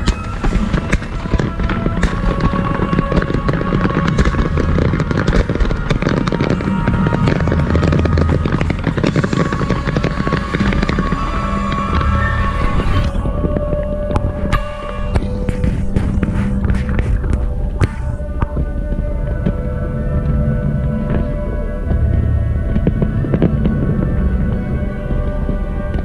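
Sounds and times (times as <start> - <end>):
fireworks crackling and popping: 0.0 - 26.0
music playing: 0.0 - 26.0.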